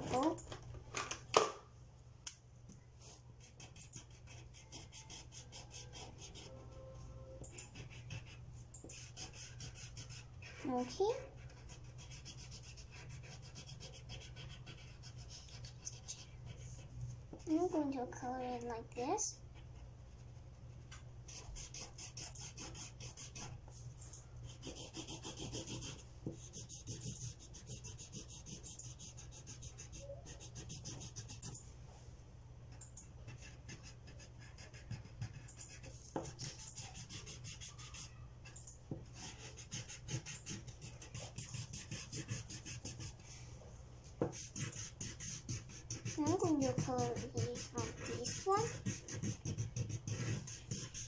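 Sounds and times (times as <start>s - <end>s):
marker scratching on paper: 3.0s - 6.6s, 7.5s - 18.0s, 20.2s - 23.8s, 24.4s - 31.6s, 33.3s - 43.4s, 44.2s - 51.0s.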